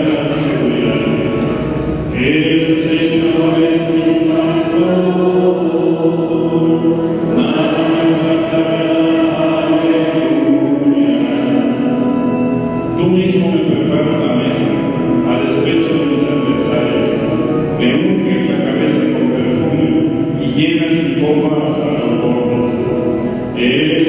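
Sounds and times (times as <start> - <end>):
person chanting long notes: 0.0 - 24.0.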